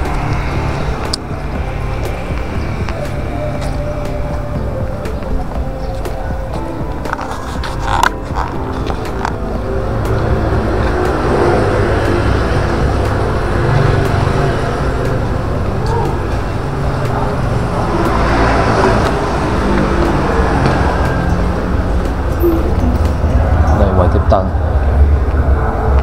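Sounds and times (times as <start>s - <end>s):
faint voices: 0.0s - 26.0s.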